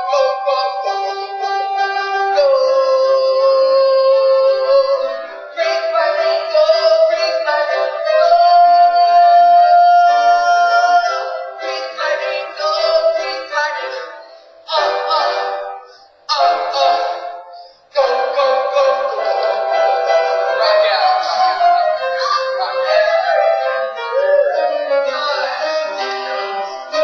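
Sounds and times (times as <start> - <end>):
recorded song with singing: 0.0 - 27.0.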